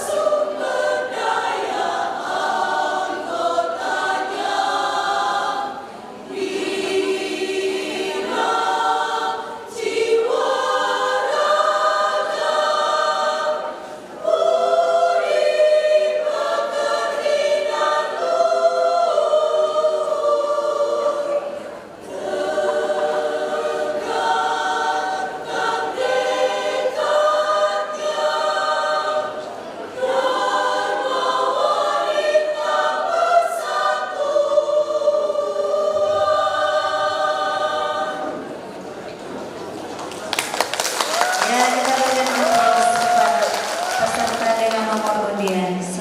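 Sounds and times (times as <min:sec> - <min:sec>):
women's choir singing in harmony: 0:00.0 - 0:39.6, 0:40.2 - 0:46.0.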